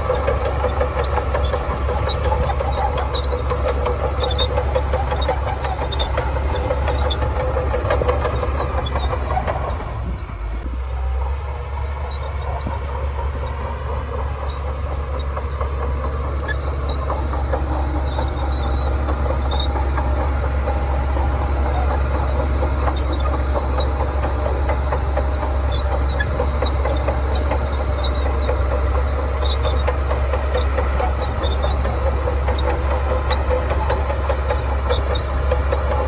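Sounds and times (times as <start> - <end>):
bulldozer diesel engine running: 0.0 - 36.0
steel tracks clanking: 0.0 - 36.0.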